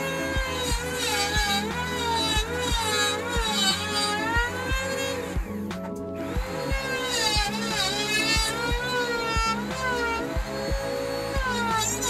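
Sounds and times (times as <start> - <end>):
music with drum beat: 0.0 - 12.0
sliding high melody: 0.0 - 12.0.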